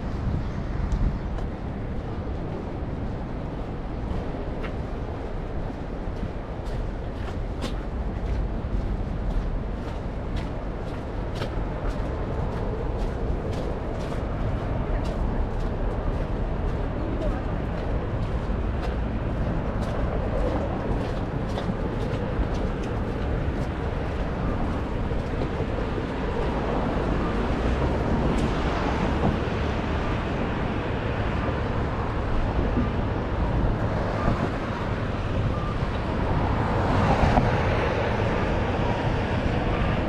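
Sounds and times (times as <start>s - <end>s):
distant traffic: 0.0s - 40.0s
wind rumble on microphone: 0.0s - 40.0s
footsteps on cobblestones: 0.2s - 40.0s.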